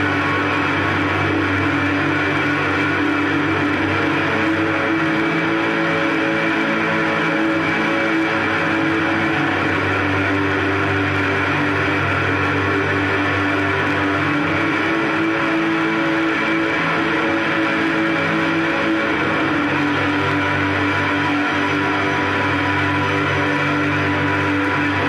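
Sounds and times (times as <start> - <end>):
electric guitar picking: 0.0 - 25.0.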